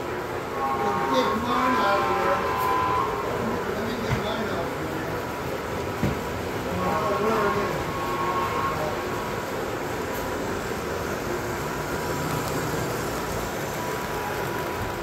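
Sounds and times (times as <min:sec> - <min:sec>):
model train wheels rolling on rails: 0:00.0 - 0:15.0.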